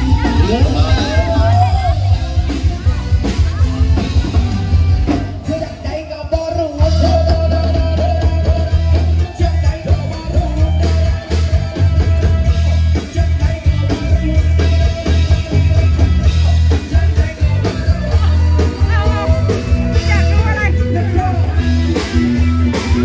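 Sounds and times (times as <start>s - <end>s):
guitar: 0.0s - 23.0s
person singing: 0.0s - 23.0s
pulsing bass line: 0.0s - 23.0s.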